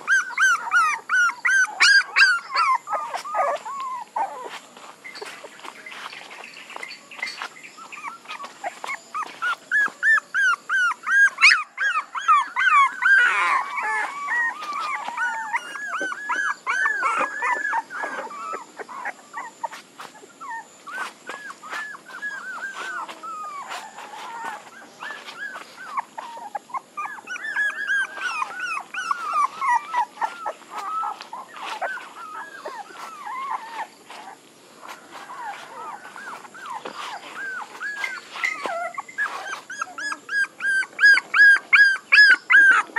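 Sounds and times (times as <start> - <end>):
puppies whimpering: 0.0 - 42.9.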